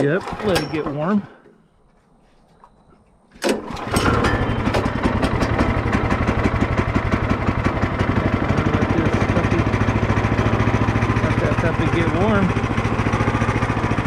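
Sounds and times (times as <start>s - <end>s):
sawmill engine cranking and idling: 0.0s - 1.5s, 3.4s - 14.0s.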